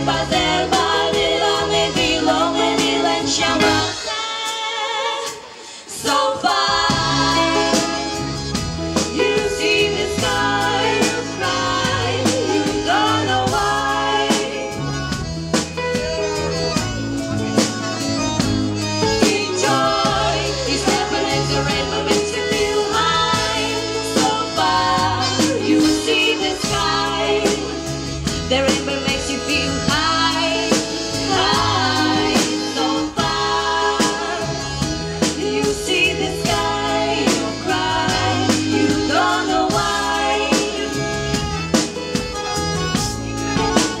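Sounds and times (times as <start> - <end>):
bass line: 0.0 - 4.1, 6.4 - 44.0
steady drum beat: 0.0 - 4.6, 6.1 - 44.0
women singing into microphones: 0.0 - 8.4, 9.0 - 15.2, 19.0 - 41.6.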